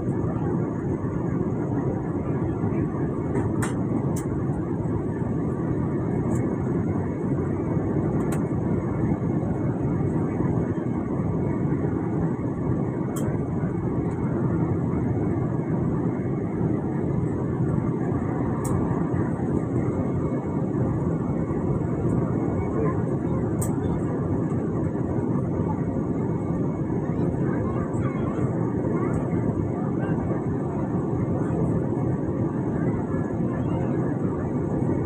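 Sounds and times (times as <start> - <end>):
airliner engines roaring: 0.0 - 35.0.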